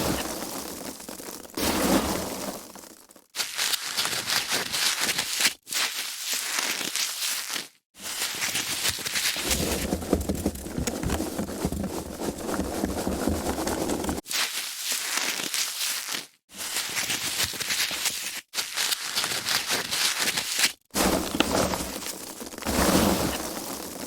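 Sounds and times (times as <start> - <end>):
foam packaging crackling: 3.4 - 24.0.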